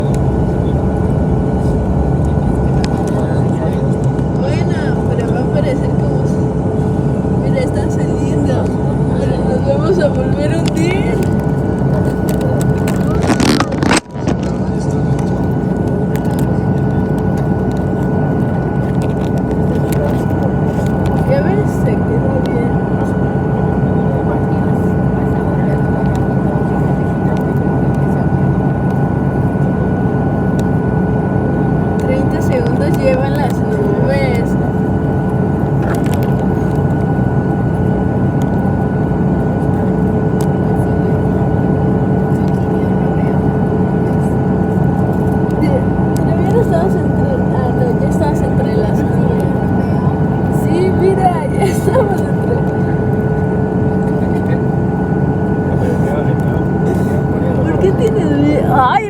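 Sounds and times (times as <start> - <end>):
airliner cabin drone: 0.0 - 59.0
faint steady whine: 0.0 - 59.0.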